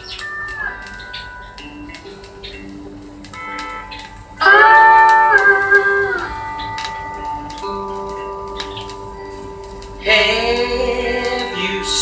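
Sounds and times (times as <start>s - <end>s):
slide guitar music: 0.0s - 12.0s.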